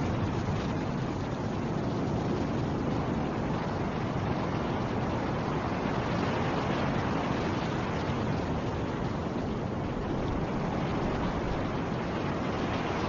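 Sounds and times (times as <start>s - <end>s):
snowstorm wind rushing: 0.0s - 13.0s.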